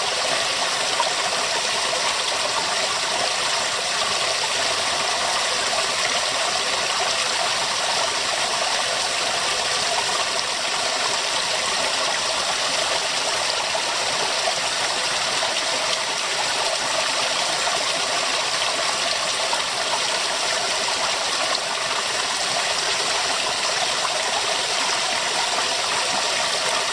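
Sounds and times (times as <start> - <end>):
river water running over rocks: 0.0 - 26.9.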